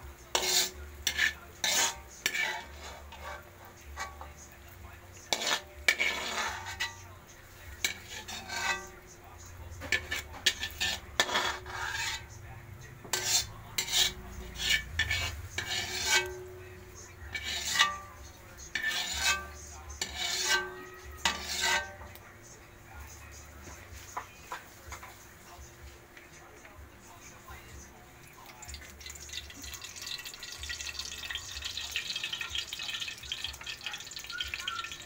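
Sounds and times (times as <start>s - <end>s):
metal ladle scraping a wok: 0.0s - 22.3s, 28.7s - 35.0s.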